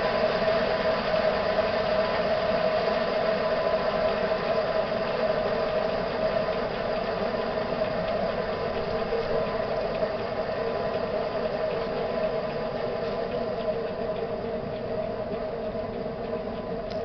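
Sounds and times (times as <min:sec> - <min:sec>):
jet engine idling: 0:00.0 - 0:17.0.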